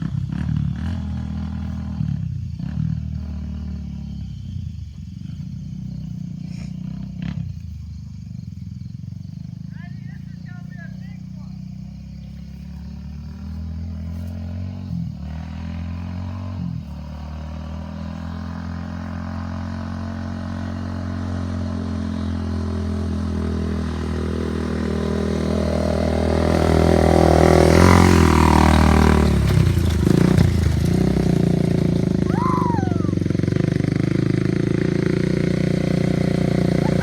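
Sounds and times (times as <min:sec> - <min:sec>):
four-stroke engine running: 0:00.0 - 0:37.0.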